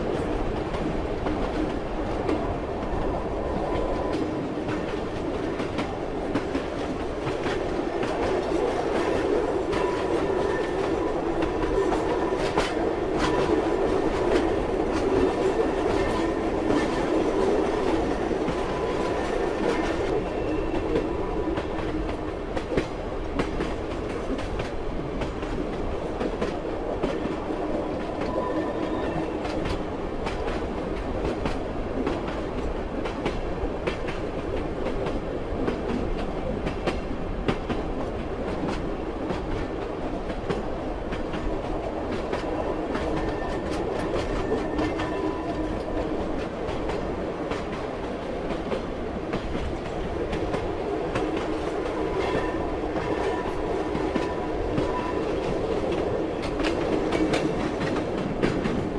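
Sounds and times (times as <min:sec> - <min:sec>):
train carriage rumble: 0:00.0 - 0:58.9.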